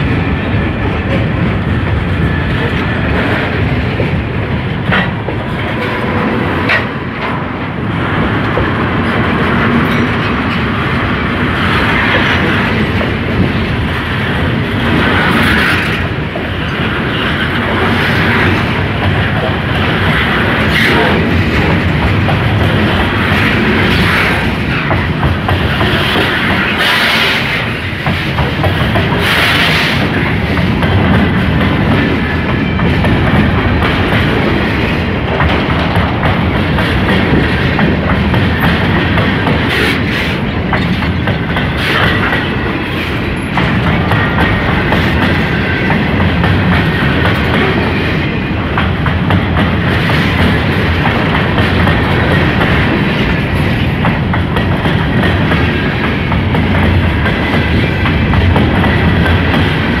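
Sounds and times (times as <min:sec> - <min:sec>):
clickety-clack over rail joints: 0:00.0 - 1:00.0
train wheels rumbling on rails: 0:00.0 - 1:00.0.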